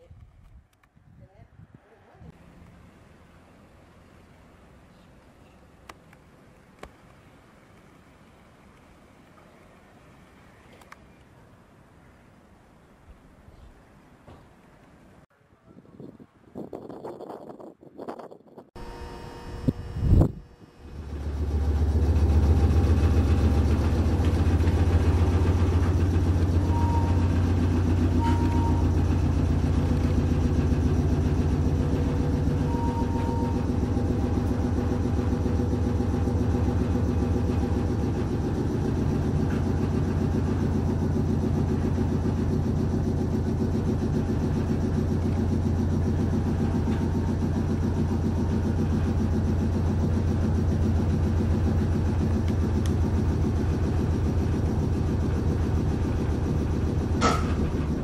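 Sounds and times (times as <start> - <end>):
electric train hum and rumble: 0.0 - 58.0.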